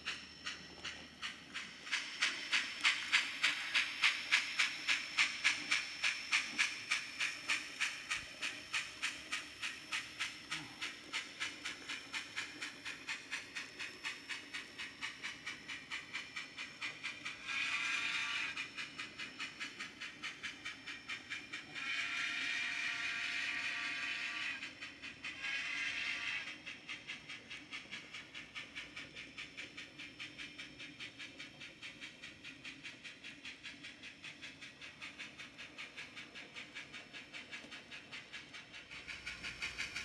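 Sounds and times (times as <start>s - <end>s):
model steam locomotive chuffing: 0.0s - 40.0s.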